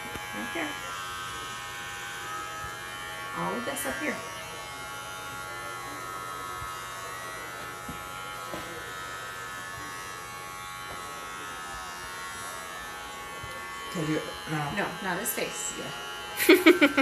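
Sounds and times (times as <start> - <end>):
electric hair clippers buzzing: 0.0 - 17.0.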